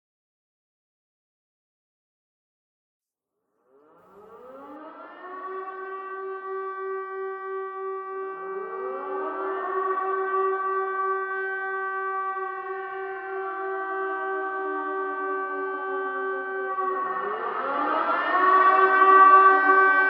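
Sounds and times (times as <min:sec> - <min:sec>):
warning siren wailing: 0:03.7 - 0:20.0.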